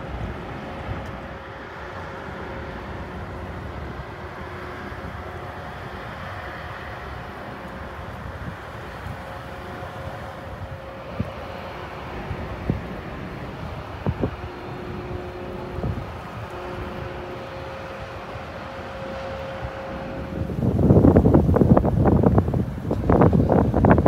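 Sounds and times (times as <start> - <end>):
distant engine drone: 0.0 - 24.0
faint constant hum: 0.0 - 24.0
wind buffeting microphone: 0.0 - 24.0.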